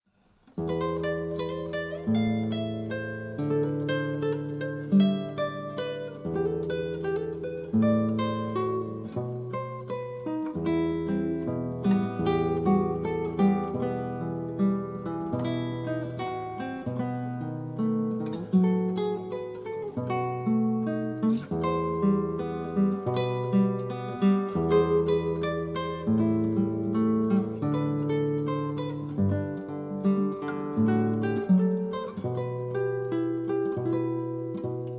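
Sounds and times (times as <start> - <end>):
acoustic guitar tune: 0.0 - 34.9.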